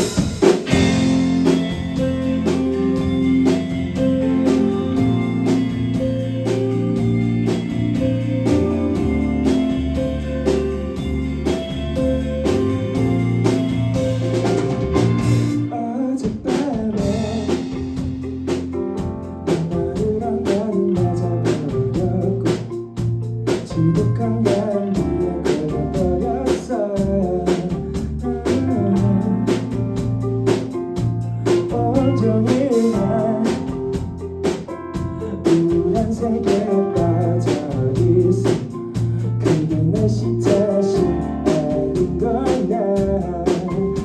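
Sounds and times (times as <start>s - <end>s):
bass guitar: 0.0s - 44.0s
drum kit beat: 0.0s - 44.0s
electric guitars: 0.0s - 44.0s.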